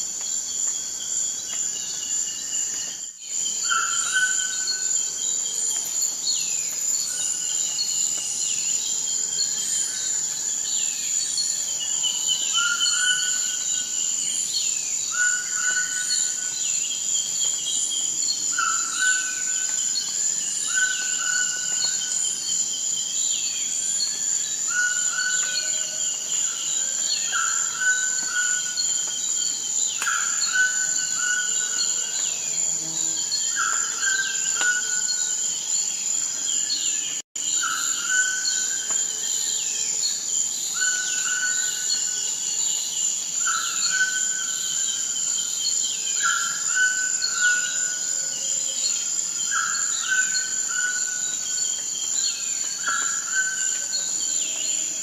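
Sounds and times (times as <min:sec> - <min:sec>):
high-pitched insect drone: 0:01.8 - 0:55.0.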